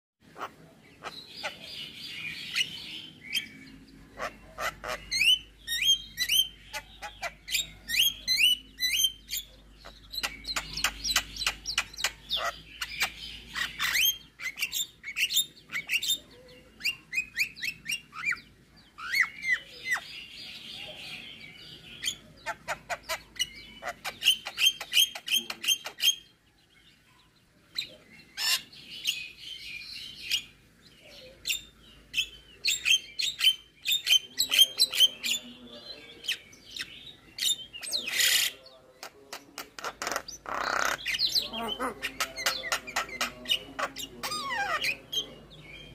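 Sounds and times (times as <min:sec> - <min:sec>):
myna bird singing: 0:00.2 - 0:45.9.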